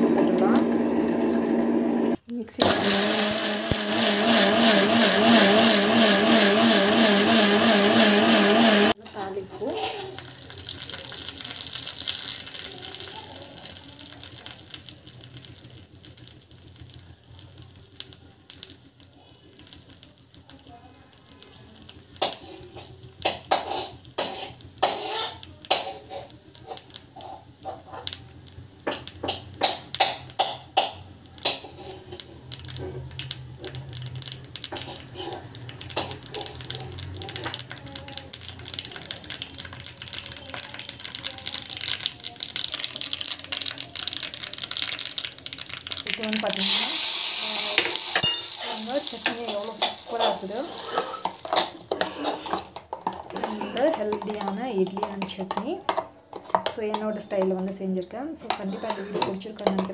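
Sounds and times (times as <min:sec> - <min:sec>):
hot oil sizzling: 0:00.0 - 0:59.9
seeds crackling and popping: 0:08.9 - 0:59.9.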